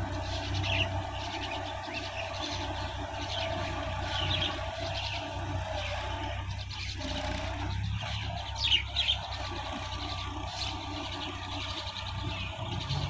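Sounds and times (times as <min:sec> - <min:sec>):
bird chirps: 0:00.0 - 0:13.0
tractor engine running: 0:00.0 - 0:13.0.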